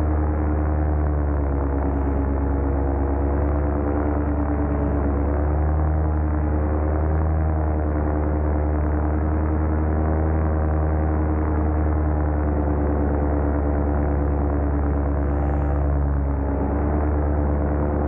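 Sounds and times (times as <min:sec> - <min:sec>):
paramotor engine droning: 0:00.0 - 0:18.0.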